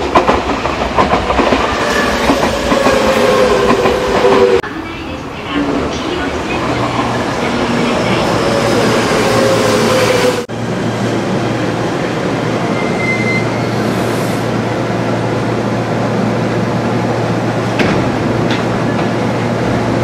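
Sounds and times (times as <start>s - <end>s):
standing train hum: 0.0s - 20.0s.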